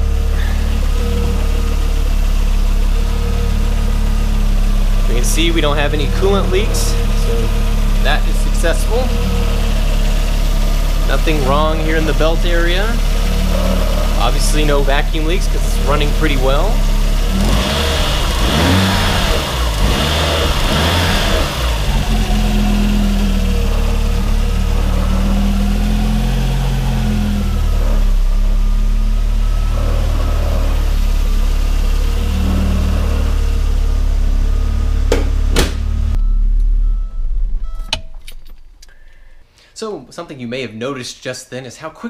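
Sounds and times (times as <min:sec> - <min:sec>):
car engine revving and idling: 0:00.0 - 0:39.4.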